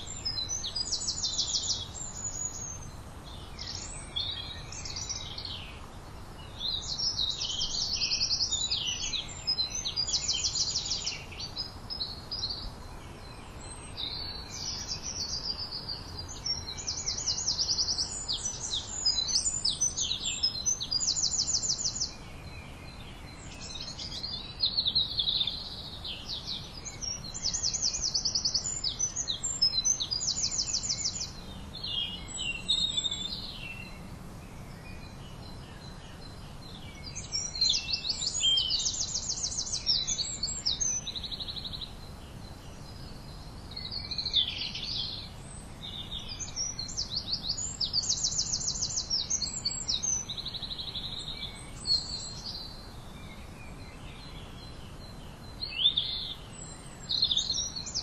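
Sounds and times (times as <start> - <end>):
songbirds singing trills: 0.0 - 58.0
steady low background noise: 0.0 - 58.0.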